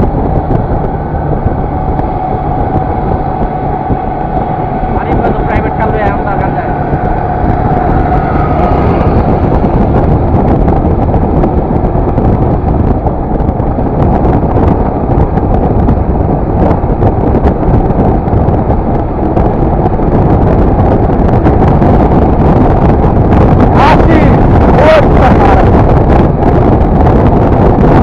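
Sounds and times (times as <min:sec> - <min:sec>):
motorcycle engine running: 0:00.0 - 0:23.8
wind rushing over microphone: 0:00.0 - 0:28.0.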